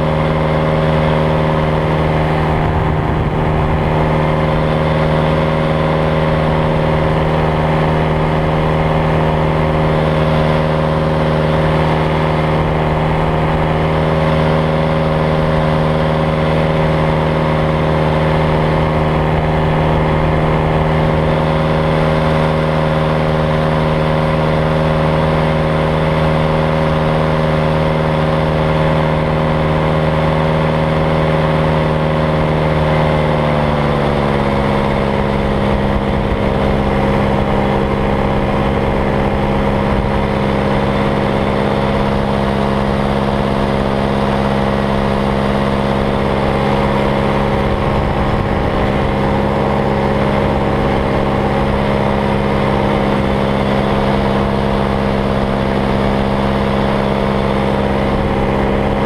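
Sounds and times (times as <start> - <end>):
paramotor engine and propeller droning: 0.0 - 59.0.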